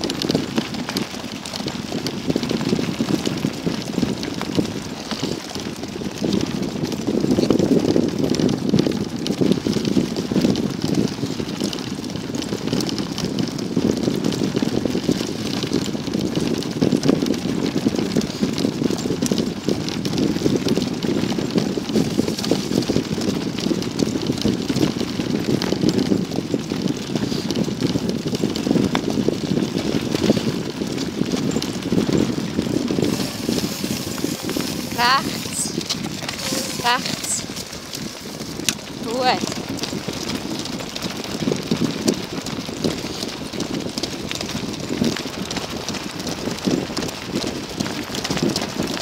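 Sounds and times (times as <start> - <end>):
small clicks and rattles: 0.0 - 49.0
wagon wheels rumbling on gravel: 0.0 - 49.0.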